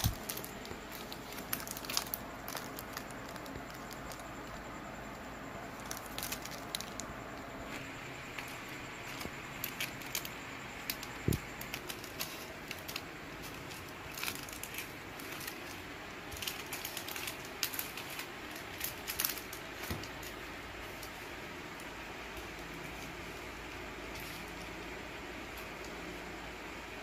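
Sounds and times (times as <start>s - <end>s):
plastic packets crinkling: 0.0s - 26.2s.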